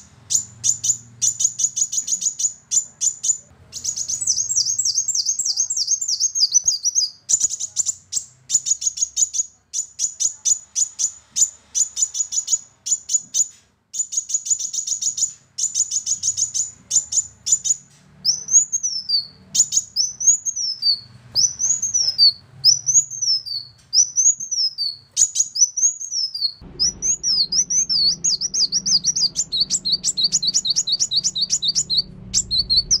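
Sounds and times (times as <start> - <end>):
sunbird singing: 0.0 - 33.0.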